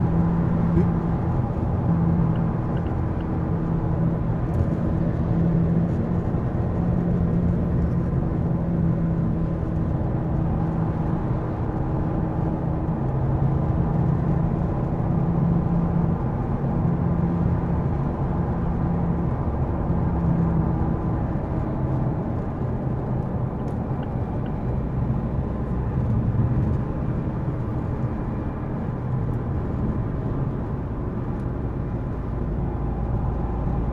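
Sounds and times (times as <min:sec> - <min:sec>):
car running noise: 0:00.0 - 0:33.9.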